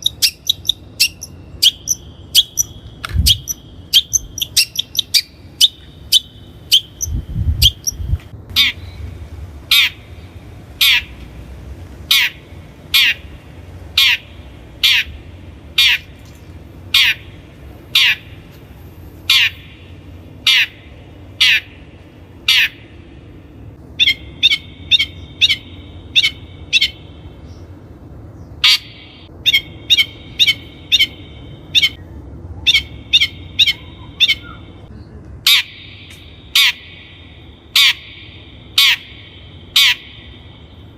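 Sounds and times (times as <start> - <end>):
bird harsh downward calls: 0.0 - 16.2, 16.8 - 18.5, 19.2 - 27.8, 28.4 - 40.9.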